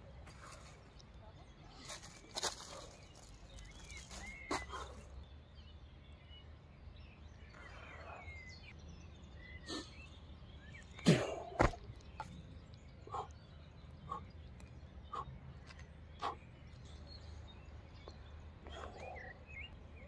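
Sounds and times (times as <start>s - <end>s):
bird chirps: 0.6s - 20.0s.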